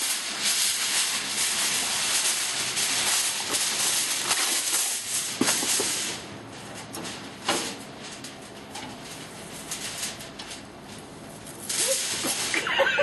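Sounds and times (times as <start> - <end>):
aluminum foil crinkling: 0.0 - 13.0.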